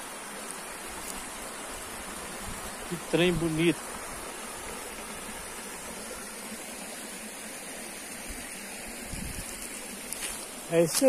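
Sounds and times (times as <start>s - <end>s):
creek water flowing over stones: 0.0s - 11.0s.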